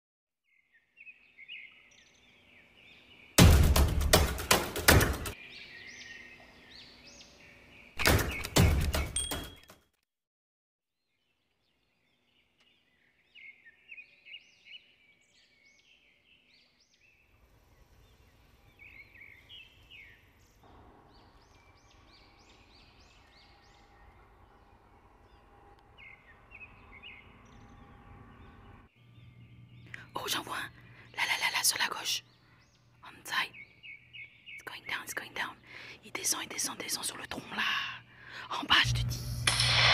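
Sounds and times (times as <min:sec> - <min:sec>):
songbirds chirping: 0:00.4 - 0:03.4, 0:04.1 - 0:09.6, 0:11.0 - 0:39.3
faint outdoor hiss: 0:00.5 - 0:03.4, 0:05.3 - 0:08.0, 0:11.2 - 0:39.9.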